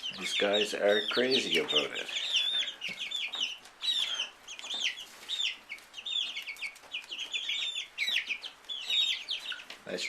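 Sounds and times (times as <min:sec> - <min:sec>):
chicks cheeping: 0:00.0 - 0:10.0.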